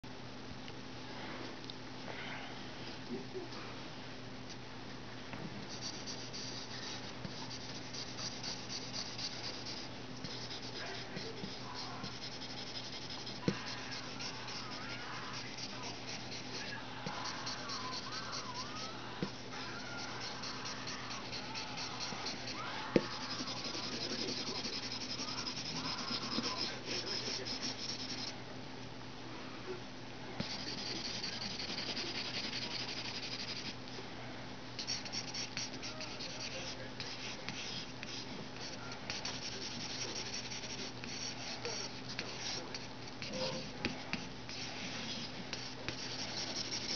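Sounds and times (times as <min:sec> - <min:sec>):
pencil scratching on paper: 0:05.7 - 0:28.3, 0:30.4 - 0:33.8, 0:34.8 - 0:46.9.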